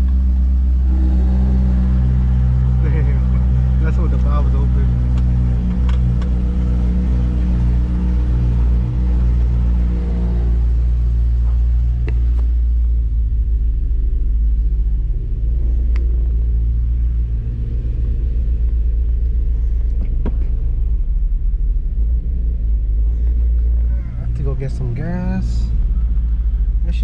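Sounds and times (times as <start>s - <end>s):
car engine low rumble: 0.0s - 27.0s.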